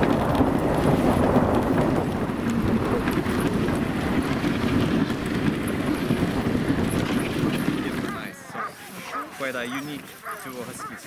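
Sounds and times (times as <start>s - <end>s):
sled runners scraping over snow: 0.0s - 11.0s.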